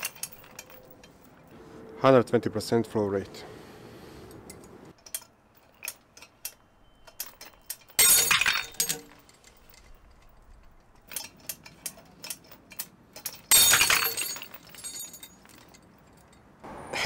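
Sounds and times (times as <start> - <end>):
hooks clinking: 0.0 - 1.6, 4.4 - 16.6
steel hooks and chain rattling: 0.0 - 1.6, 4.5 - 16.6.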